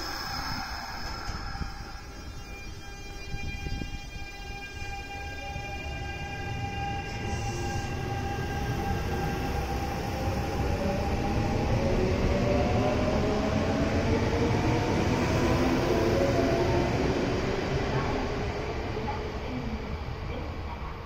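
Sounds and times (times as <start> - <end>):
steady high tone: 0.0 - 20.2.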